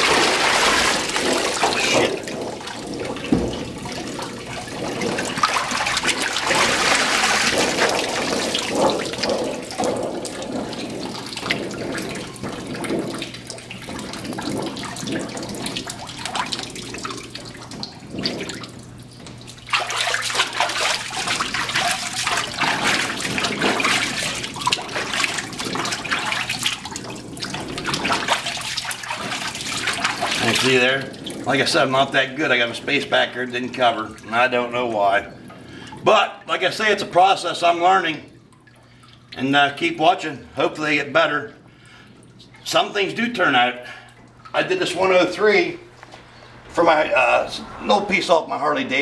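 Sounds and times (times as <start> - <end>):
water sloshing and splashing: 0.0 - 49.0.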